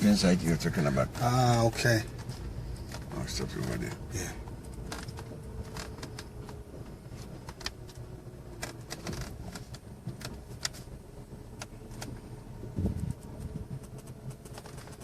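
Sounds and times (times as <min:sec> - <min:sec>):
vehicle bump: 0:00.0 - 0:15.0
vehicle engine and road rumble: 0:00.0 - 0:15.0
vehicle rattles and clicks: 0:00.0 - 0:15.0.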